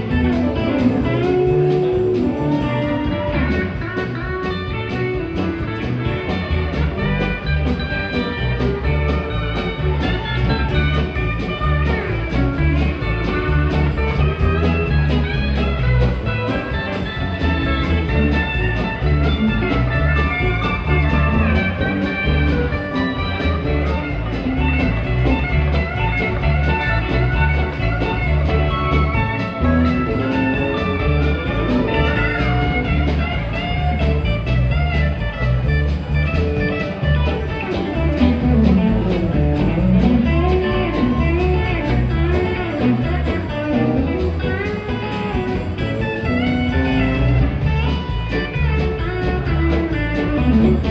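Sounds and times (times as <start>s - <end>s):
live band guitar: 0.0s - 50.9s
pulsing bass line: 0.0s - 50.9s.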